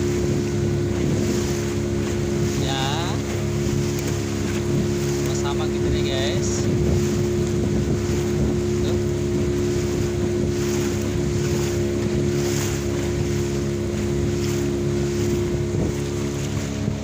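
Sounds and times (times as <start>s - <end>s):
boat engine running: 0.0s - 17.0s
water splashing along hull: 0.0s - 17.0s
wind buffeting microphone: 0.0s - 17.0s.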